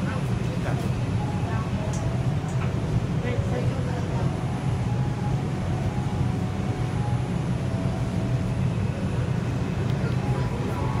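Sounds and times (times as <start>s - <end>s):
faint steady whine: 0.0s - 11.0s
subway car rumble in tunnel: 0.0s - 11.0s.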